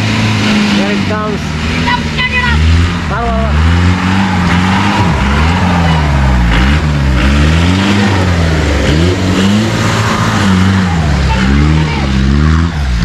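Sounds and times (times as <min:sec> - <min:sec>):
jeep engine revving: 0:00.0 - 0:13.0.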